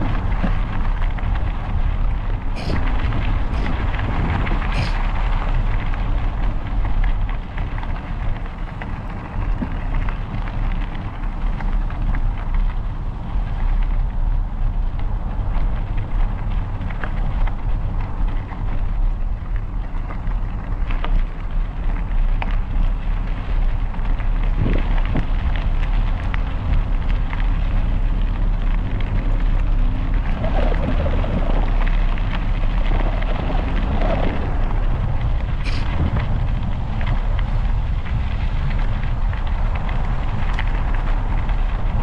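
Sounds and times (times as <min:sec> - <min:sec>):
bike tyres on gravel: 0:00.0 - 0:42.0
wind on microphone: 0:00.0 - 0:42.0.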